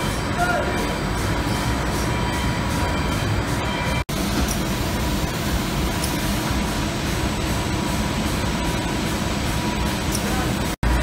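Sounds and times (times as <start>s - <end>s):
machine hum and rush: 0.0s - 11.0s.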